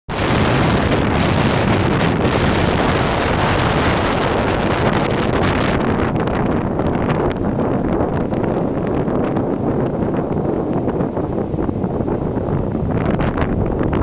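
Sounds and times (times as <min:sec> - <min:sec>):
wind buffeting microphone: 0:00.1 - 0:14.0.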